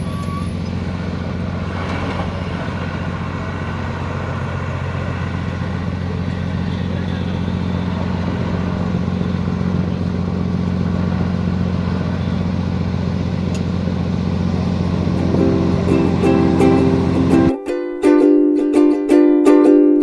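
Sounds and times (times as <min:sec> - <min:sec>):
diesel truck pulling away: 0:00.0 - 0:17.6.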